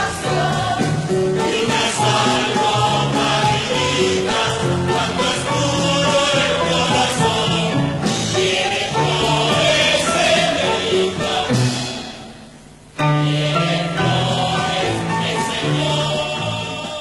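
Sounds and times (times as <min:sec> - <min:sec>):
chorus singing with accompaniment: 0:00.0 - 0:17.0.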